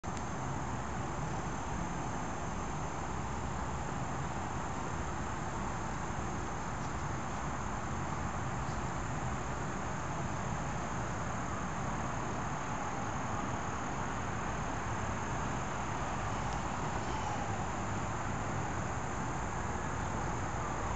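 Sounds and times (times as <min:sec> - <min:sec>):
high insect trill: 0:00.3 - 0:20.9.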